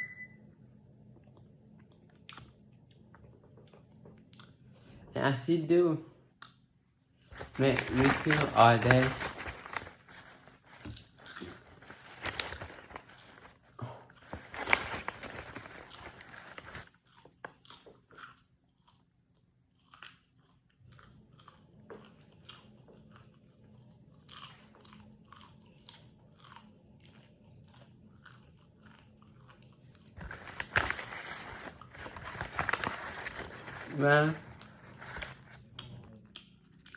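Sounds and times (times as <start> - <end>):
person chewing popcorn: 1.1 - 4.8, 6.3 - 36.9.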